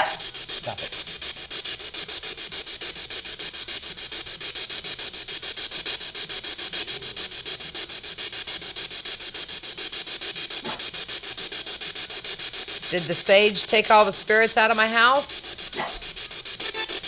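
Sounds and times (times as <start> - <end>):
pulsing radio static: 0.0 - 17.0.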